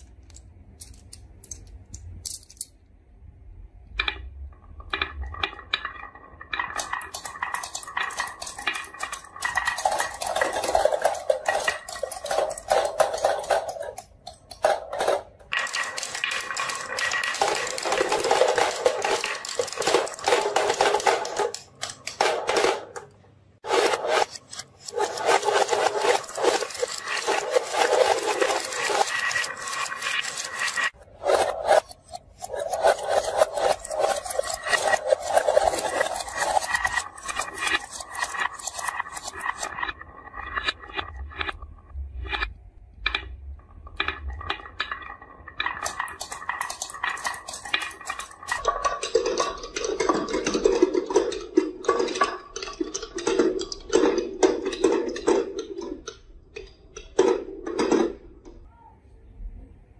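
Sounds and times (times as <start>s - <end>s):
marbles clattering down wooden tracks: 4.0s - 41.6s, 42.2s - 58.6s.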